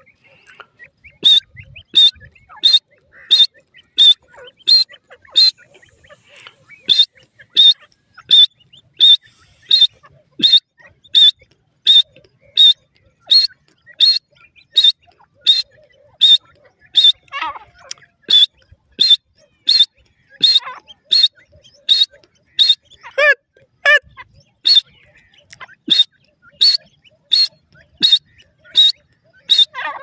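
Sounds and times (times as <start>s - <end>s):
bird calling sharp high notes: 1.2s - 24.0s, 24.6s - 30.0s.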